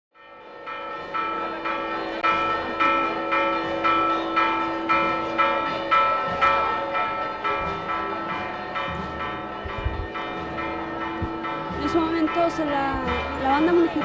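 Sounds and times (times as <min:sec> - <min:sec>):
church bells pealing: 0:00.2 - 0:14.0.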